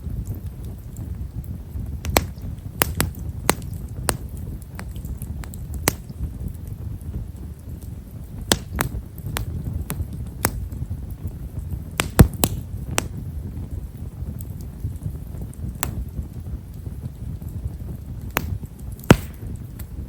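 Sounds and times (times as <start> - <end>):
firewood crackling and popping: 0.0 - 20.0
low rumble of flame: 0.0 - 20.0.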